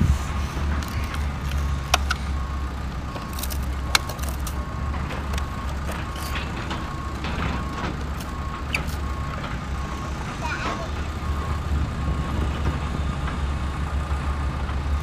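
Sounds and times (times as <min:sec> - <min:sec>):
low engine rumble: 0:00.0 - 0:15.0
reversing alarm beeping: 0:00.3 - 0:13.6.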